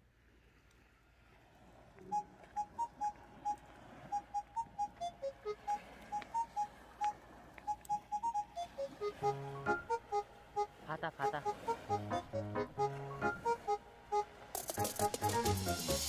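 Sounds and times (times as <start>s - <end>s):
bouncy light melody: 2.0s - 16.0s.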